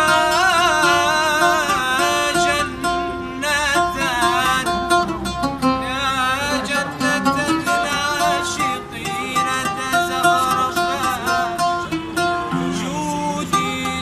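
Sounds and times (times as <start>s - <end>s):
oud plucking a melody: 0.0s - 14.0s.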